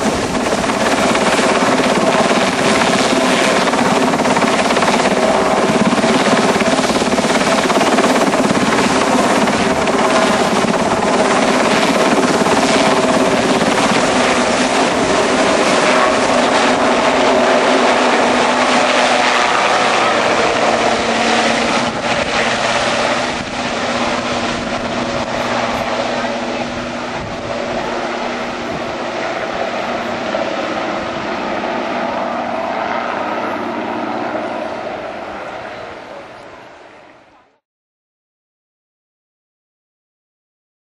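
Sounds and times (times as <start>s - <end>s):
helicopter engines and rotors: 0.0s - 37.6s.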